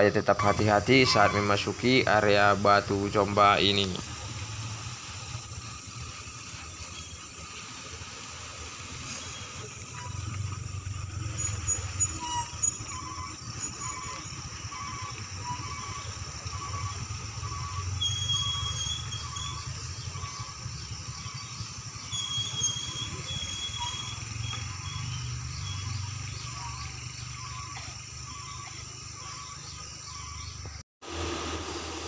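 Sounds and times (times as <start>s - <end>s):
cars and motorcycles passing: 0.6s - 31.5s.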